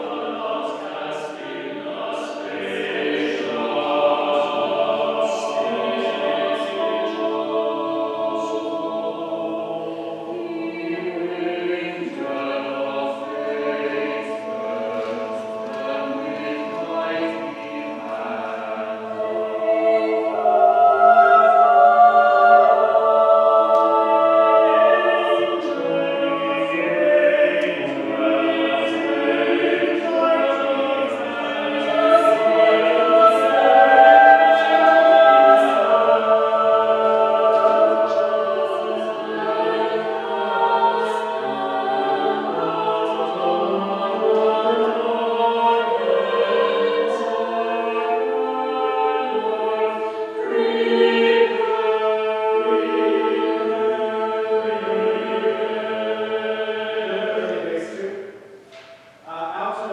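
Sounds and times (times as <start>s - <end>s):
mixed choir singing chords: 0.0s - 59.9s.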